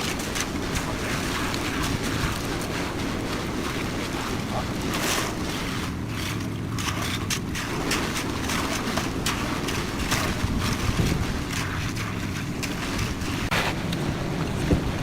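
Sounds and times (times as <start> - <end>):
concrete mixer engine running: 0.0 - 15.0.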